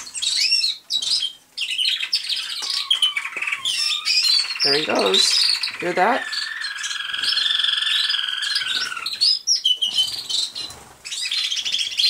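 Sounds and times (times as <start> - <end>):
canary singing rolling trill: 0.0 - 12.0.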